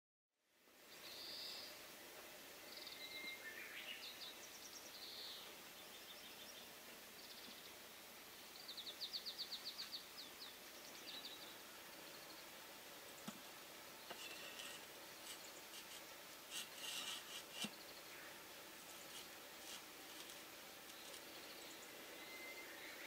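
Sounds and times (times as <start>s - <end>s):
steady background hiss: 0.4s - 23.0s
wild birds singing and chirping: 0.8s - 1.8s, 2.6s - 23.0s.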